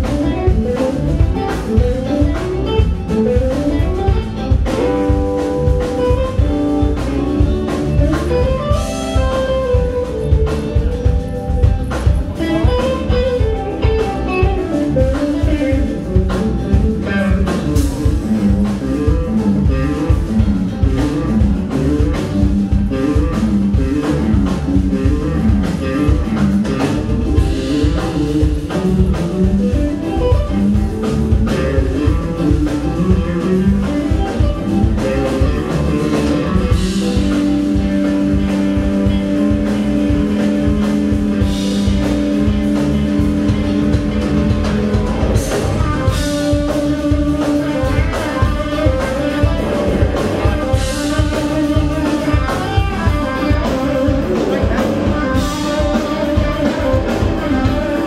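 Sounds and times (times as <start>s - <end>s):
drum kit beat: 0.0s - 58.0s
electric guitars playing: 0.0s - 58.0s.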